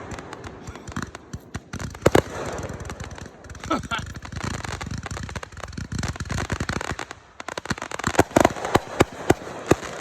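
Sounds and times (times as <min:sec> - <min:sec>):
fireworks bangs: 0:00.0 - 0:10.0
fireworks crackling: 0:00.0 - 0:10.0.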